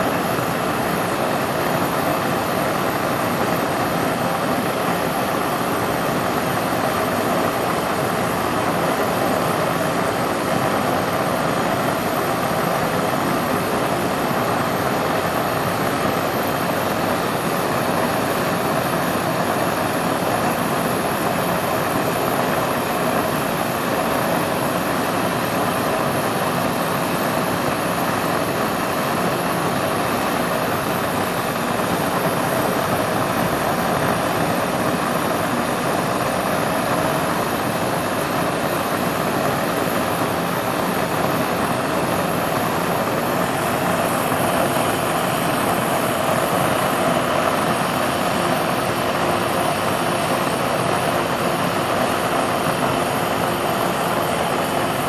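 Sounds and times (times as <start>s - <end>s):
blowtorch flame hissing: 0.0s - 55.0s.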